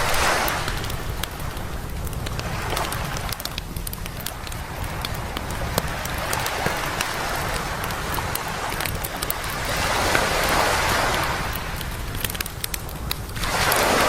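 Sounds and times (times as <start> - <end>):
bonfire crackling and popping: 0.0 - 14.0
ocean waves washing ashore: 0.0 - 14.0.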